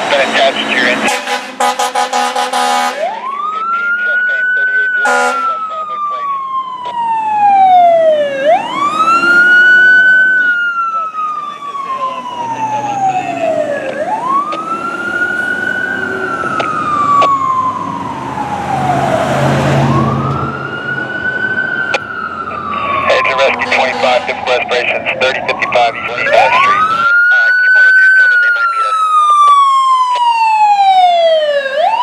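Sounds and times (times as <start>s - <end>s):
fire engine siren wailing: 0.0s - 32.0s.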